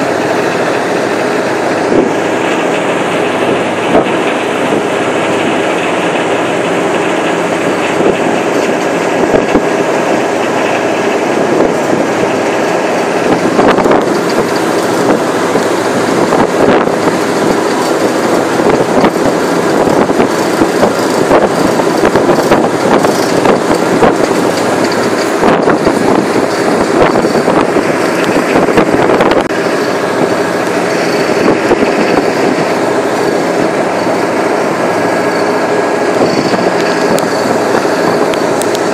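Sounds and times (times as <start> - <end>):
constant rush of noise: 0.0 - 38.9
ferry engines droning: 0.0 - 38.9.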